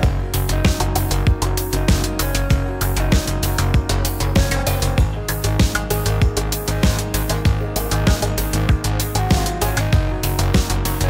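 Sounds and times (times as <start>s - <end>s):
deep bass notes: 0.0s - 11.0s
electronic music with drum beat: 0.0s - 11.0s.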